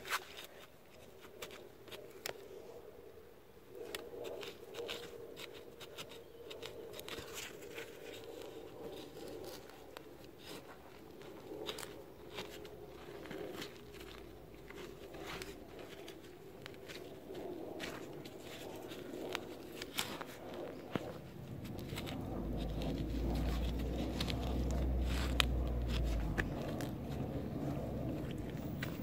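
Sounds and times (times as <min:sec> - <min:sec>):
trowel digging and scraping soil: 0:03.8 - 0:29.0
gloved hand brushing soil: 0:03.9 - 0:29.0.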